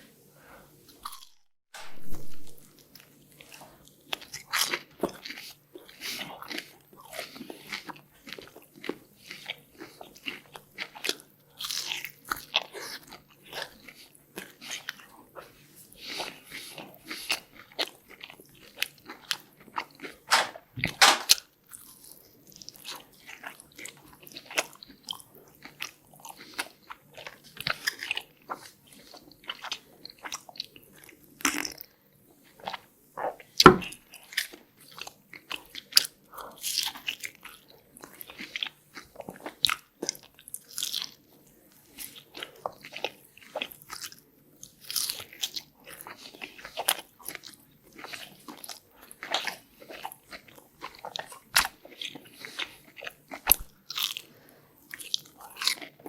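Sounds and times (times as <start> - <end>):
crunchy biting and chewing: 1.0 - 31.9, 32.5 - 56.0.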